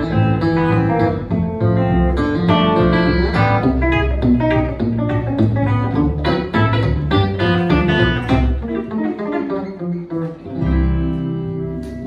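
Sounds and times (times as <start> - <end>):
electric guitar playing: 0.0 - 12.0
plucked double bass: 0.0 - 12.0.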